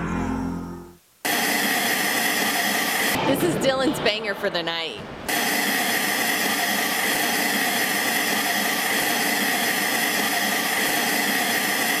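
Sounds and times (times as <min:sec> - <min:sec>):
tv static hiss: 0:00.9 - 0:12.0.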